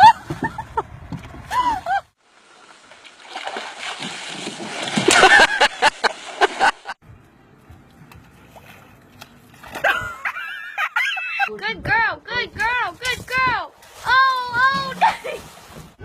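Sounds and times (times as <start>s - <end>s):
water splashing and sloshing: 0.0s - 7.0s, 7.7s - 10.6s, 12.6s - 16.0s.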